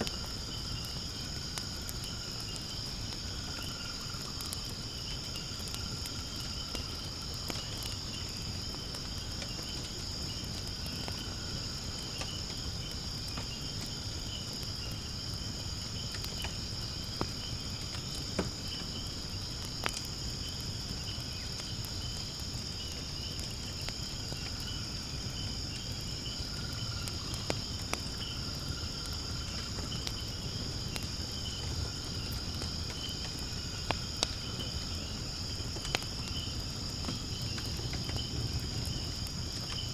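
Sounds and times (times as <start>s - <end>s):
firewood popping and crackling: 0.0s - 39.9s
insects chirring: 0.0s - 39.9s.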